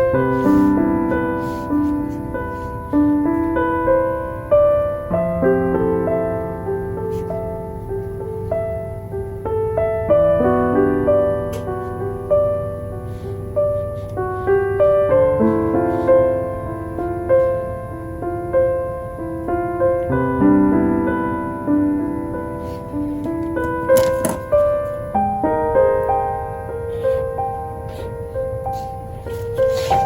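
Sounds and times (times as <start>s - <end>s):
slow soft piano music: 0.0s - 30.0s.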